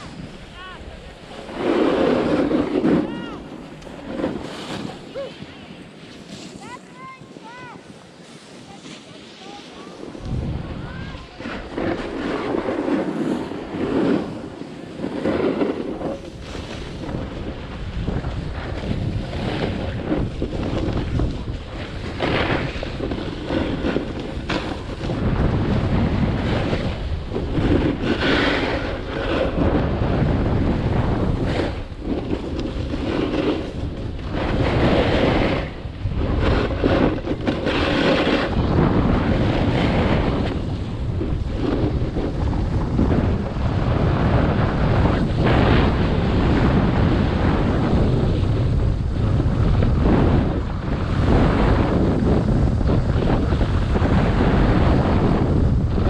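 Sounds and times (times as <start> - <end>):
snowboard edges scraping snow: 0.0 - 56.0
wind buffeting microphone: 0.0 - 56.0.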